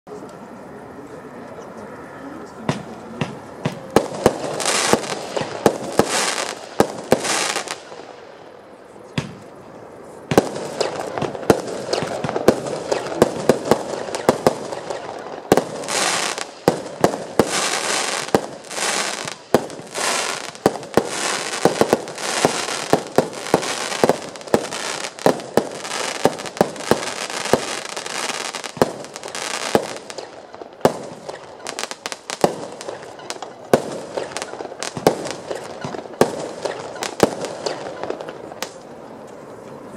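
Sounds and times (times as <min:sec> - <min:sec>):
firework battery shots: 0:02.7 - 0:08.3, 0:10.3 - 0:38.9
firework crackling: 0:02.8 - 0:08.7, 0:10.2 - 0:39.0.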